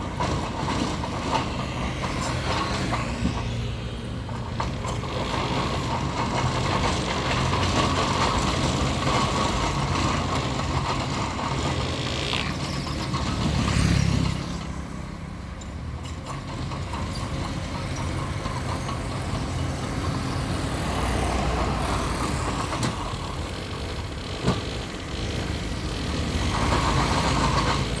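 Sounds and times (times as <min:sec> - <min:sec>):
bulldozer diesel engine: 0:00.0 - 0:28.0.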